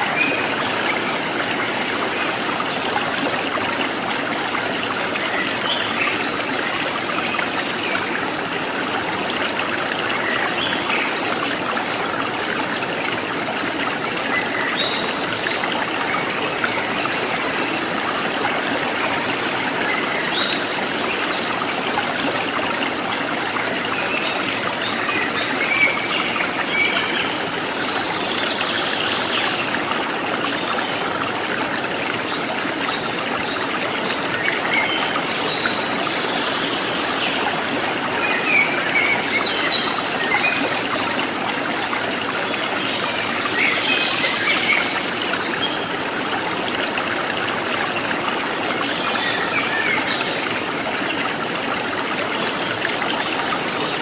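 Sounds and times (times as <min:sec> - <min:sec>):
stream trickling and splashing: 0:00.0 - 0:54.0.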